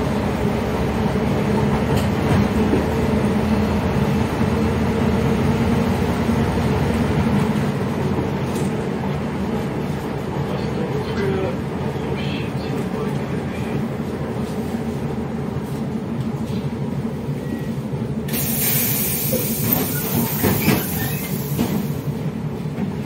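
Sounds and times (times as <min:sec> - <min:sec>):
bus engine running: 0:00.0 - 0:23.0
road noise and rattles: 0:00.0 - 0:23.0.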